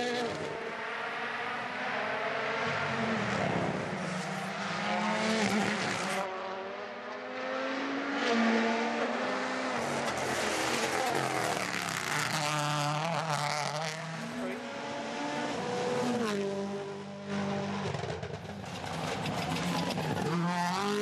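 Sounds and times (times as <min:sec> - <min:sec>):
rally car engines revving hard: 0:01.6 - 0:21.0.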